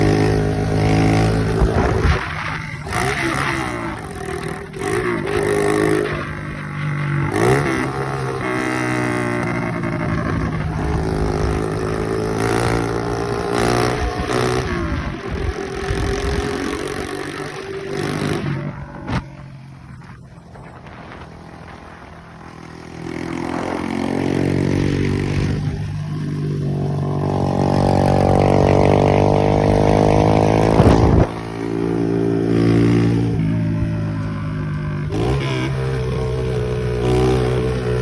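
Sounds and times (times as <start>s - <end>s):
moped engine revving: 0.0s - 38.0s.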